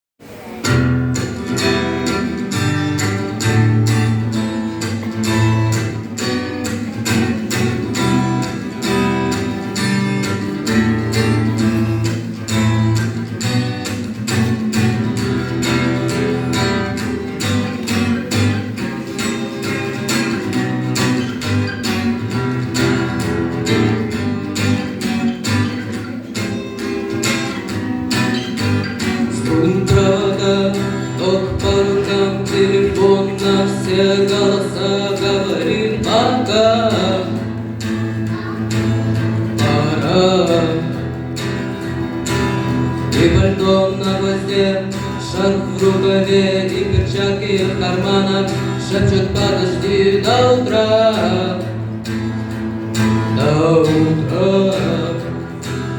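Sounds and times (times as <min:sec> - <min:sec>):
guitar strummed: 0:00.2 - 0:55.9.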